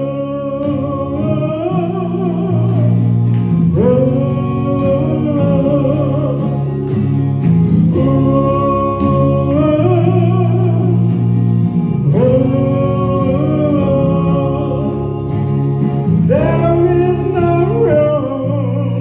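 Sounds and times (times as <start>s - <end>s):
bass notes: 0.0s - 19.0s
person singing ooh notes: 0.0s - 19.0s.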